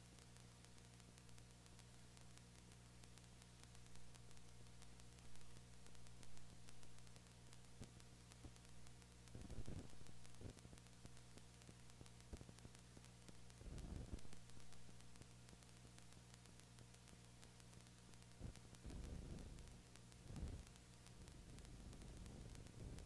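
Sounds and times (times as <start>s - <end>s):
low electrical hum: 0.0s - 23.0s
recording hiss: 0.0s - 23.0s.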